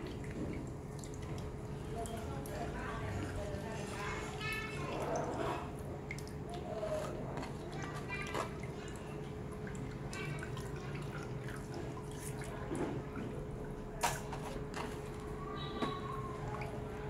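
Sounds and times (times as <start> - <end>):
water dripping and splashing: 0.0 - 17.0.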